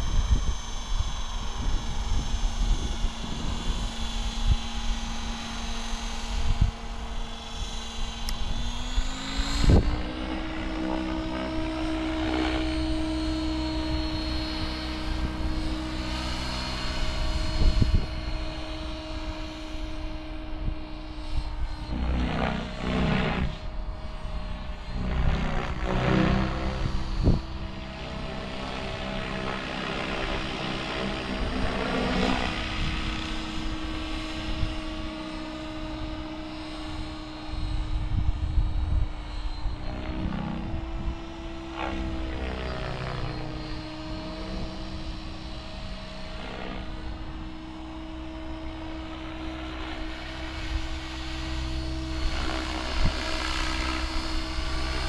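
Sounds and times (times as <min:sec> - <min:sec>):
rc helicopter motor whine: 0:00.0 - 0:55.0
rotor blades whooshing: 0:01.1 - 0:55.0.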